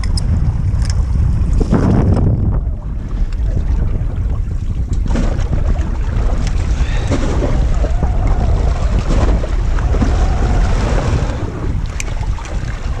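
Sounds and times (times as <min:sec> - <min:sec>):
water lapping against boat: 0:00.0 - 0:13.0
wind buffeting microphone: 0:00.0 - 0:13.0.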